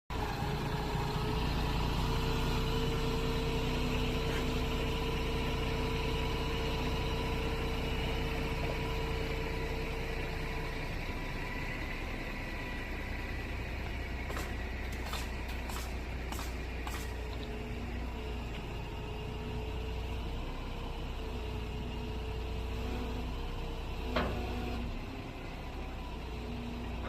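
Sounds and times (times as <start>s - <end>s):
steady motor whine: 0.1s - 27.0s
truck engine idling: 0.1s - 27.0s.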